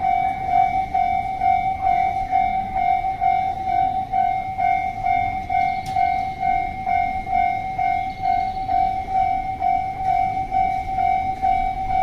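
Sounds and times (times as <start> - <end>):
railroad crossing warning bell: 0.0 - 12.0.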